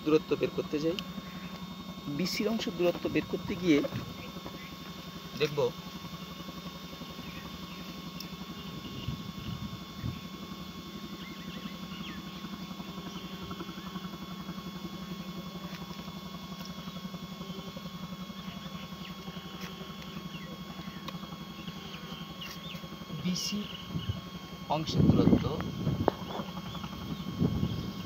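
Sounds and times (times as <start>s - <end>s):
low motor hum throbbing: 0.0s - 28.0s.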